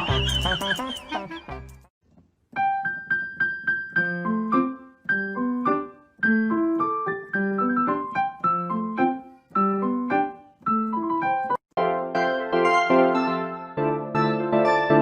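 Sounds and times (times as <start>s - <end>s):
bouncy piano melody: 2.5s - 15.0s.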